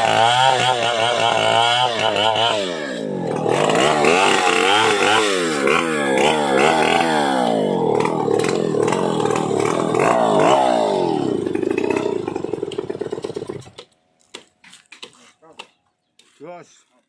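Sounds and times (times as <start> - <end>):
chainsaw revving and winding down: 0.0 - 13.8.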